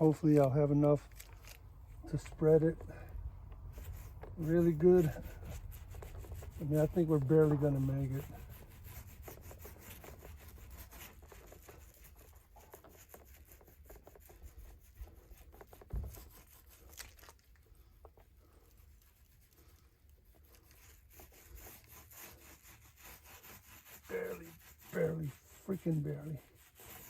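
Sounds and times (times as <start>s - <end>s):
resin rubbing and crackling: 0.0s - 27.0s.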